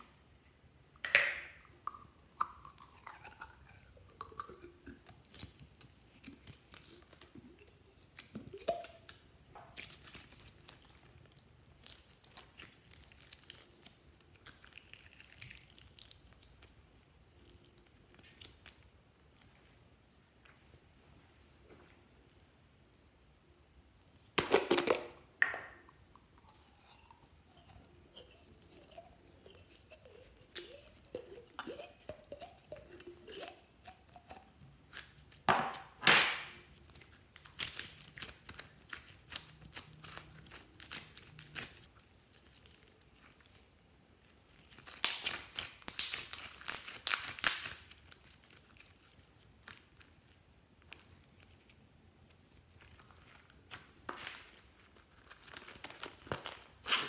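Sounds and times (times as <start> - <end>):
slime crackling and squelching: 2.0 - 19.0, 26.0 - 57.0.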